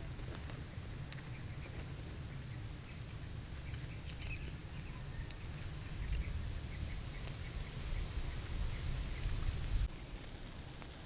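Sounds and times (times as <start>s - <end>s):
faint ticks and rustles: 0.0s - 11.0s
low outdoor rumble: 0.0s - 11.0s.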